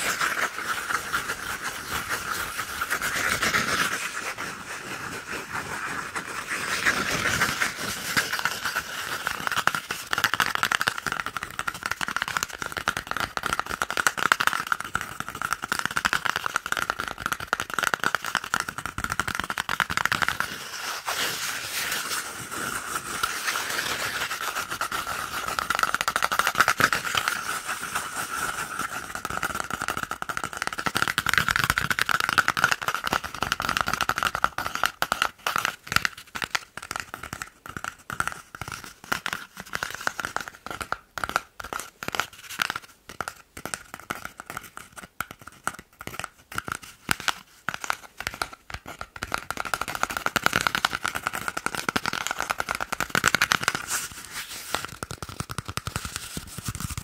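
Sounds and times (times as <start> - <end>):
fingertips tapping cardboard tube: 5.9 - 57.0.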